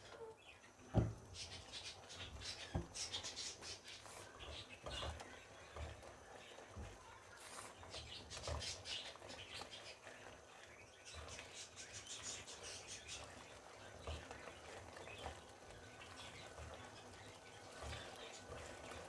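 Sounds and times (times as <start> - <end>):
syrup bubbling and crackling: 0.8 - 19.0.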